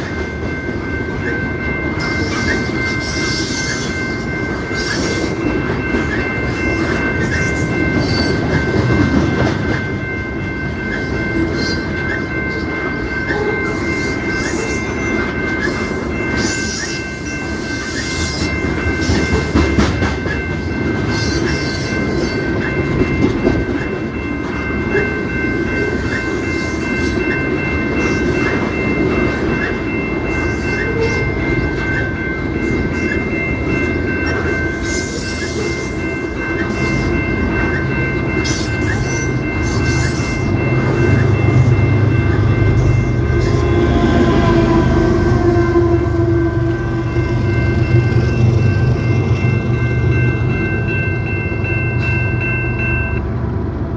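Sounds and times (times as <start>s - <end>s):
high steady tone: 0.0s - 53.9s
train railcars rumbling and clattering: 0.0s - 53.9s.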